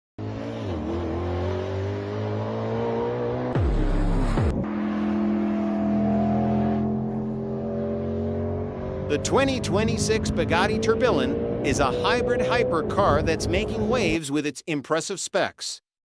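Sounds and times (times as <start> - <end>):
car engine revving: 0.2 - 14.2.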